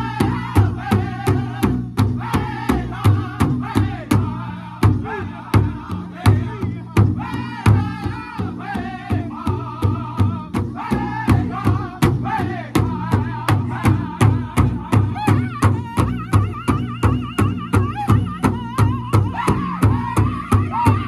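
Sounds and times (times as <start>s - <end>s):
big drum steady beat: 0.0s - 21.0s
men singing high wavering voices: 0.0s - 21.0s.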